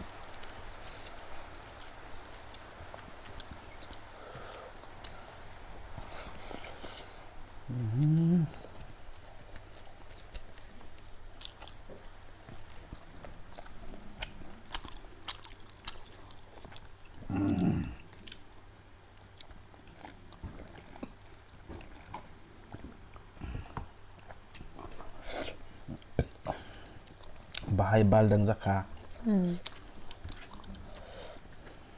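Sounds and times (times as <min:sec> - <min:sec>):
wet chewing mouth sounds: 0:00.0 - 0:18.6, 0:19.2 - 0:27.7, 0:28.8 - 0:31.8
low eating sound: 0:00.0 - 0:31.9.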